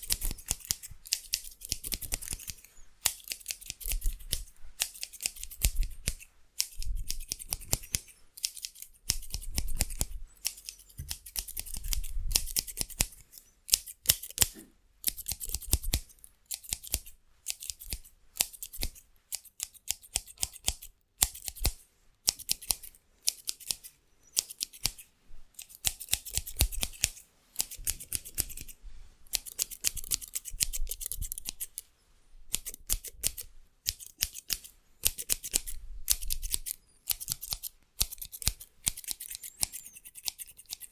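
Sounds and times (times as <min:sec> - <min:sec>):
hair scissors snipping: 0:00.0 - 0:25.0, 0:25.6 - 0:31.8, 0:32.5 - 0:40.9.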